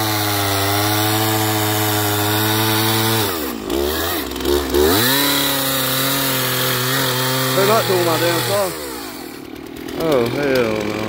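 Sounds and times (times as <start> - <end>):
chainsaw cutting log: 0.0 - 11.0.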